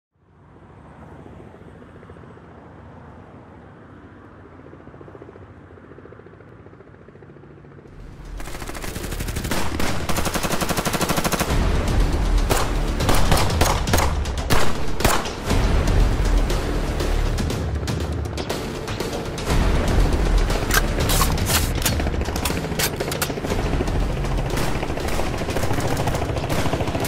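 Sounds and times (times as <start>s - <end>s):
helicopter rotor chopping: 4.1s - 27.0s.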